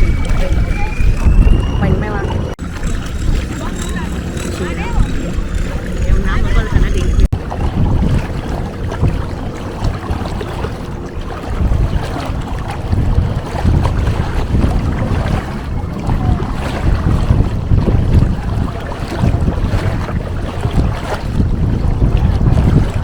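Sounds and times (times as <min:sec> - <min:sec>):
rushing water and waves: 0:00.0 - 0:23.0
wind buffeting microphone: 0:00.0 - 0:23.0.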